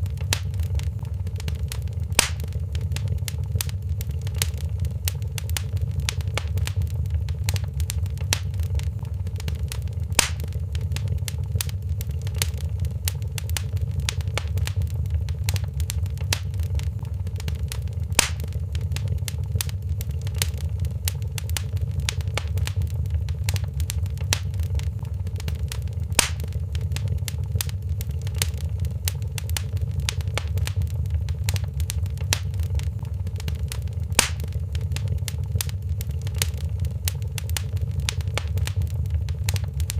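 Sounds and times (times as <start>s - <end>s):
fire pops: 0.0s - 39.9s
low rumble: 0.0s - 39.9s
wood fire crackling: 0.0s - 39.9s.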